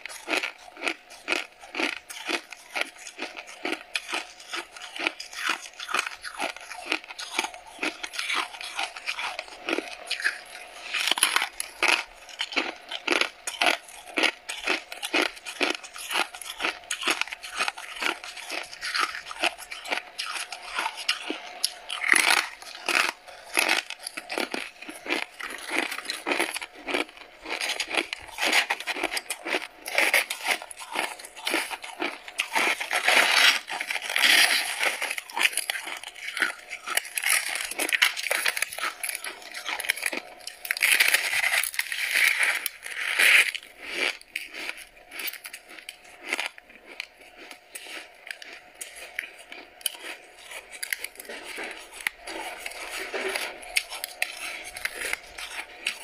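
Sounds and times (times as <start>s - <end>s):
chewing ice: 0.0s - 56.0s
frost crunching and crackling: 0.0s - 56.0s.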